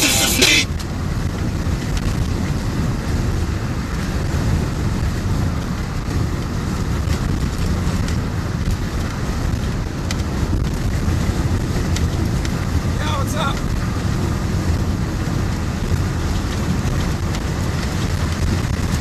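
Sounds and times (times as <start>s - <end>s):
wind and road noise in cab: 0.0s - 19.0s.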